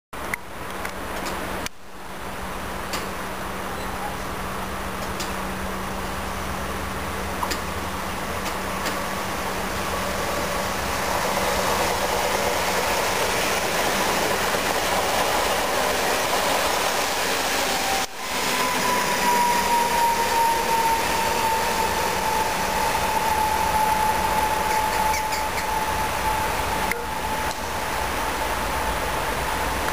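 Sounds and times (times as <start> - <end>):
train wheels rushing on rails: 0.8 - 29.9
electric train whine: 2.0 - 29.9.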